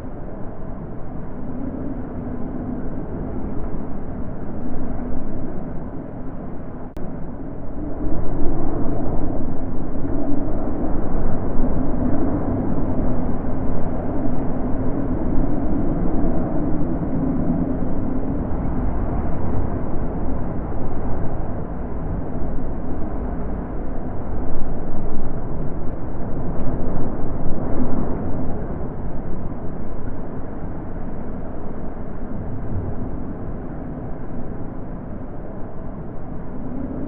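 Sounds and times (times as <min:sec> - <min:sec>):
wind blowing in gusts: 0:00.0 - 0:37.0.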